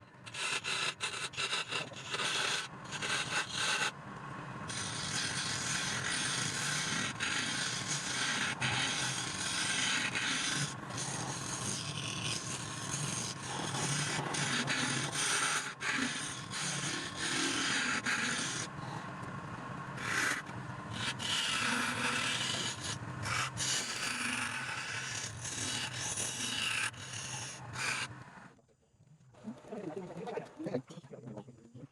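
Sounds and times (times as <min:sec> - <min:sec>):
tool scraping spinning wood: 0:00.3 - 0:04.0, 0:04.7 - 0:19.0, 0:19.9 - 0:28.3
lathe low hum: 0:01.0 - 0:28.5.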